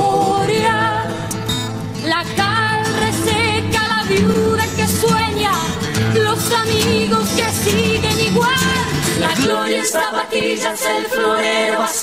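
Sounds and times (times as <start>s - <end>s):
acoustic guitar: 0.0s - 12.0s.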